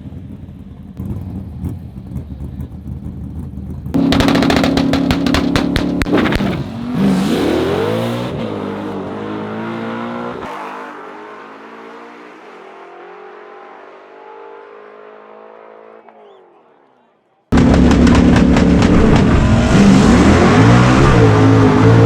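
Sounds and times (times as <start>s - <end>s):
race car engines revving: 0.1s - 22.0s.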